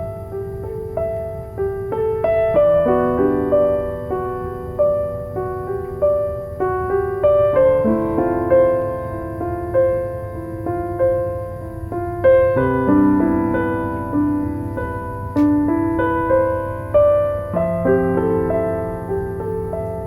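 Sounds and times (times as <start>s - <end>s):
low steady noise: 0.0s - 20.0s
soft slow piano music: 0.0s - 20.0s.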